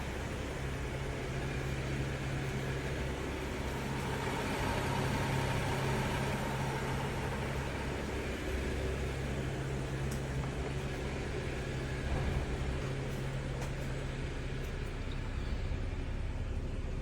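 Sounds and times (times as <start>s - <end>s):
car engine low hum: 0.0s - 17.0s
engine whine: 0.0s - 17.0s.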